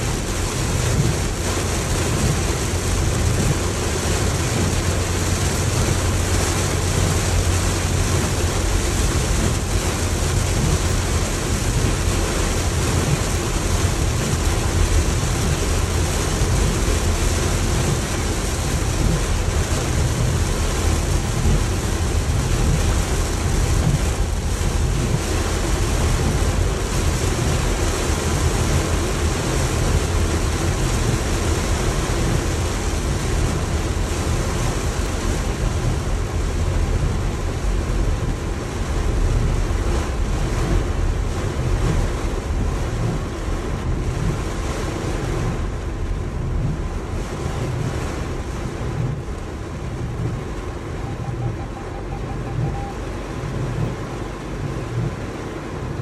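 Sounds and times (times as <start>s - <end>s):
heavy rain on car roof: 0.0s - 56.0s
road rumble from tyres: 0.0s - 56.0s.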